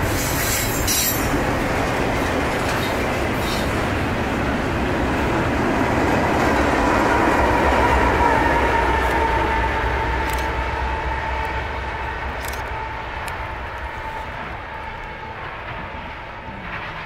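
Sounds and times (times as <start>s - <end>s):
freight train wheels rattling on rail: 0.0s - 17.0s.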